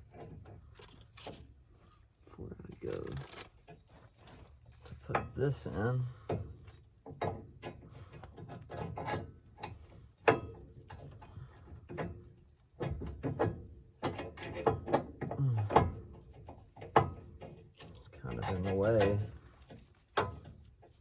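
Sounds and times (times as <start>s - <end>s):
metallic clanks of suspension parts: 0.0s - 1.9s, 2.8s - 21.0s.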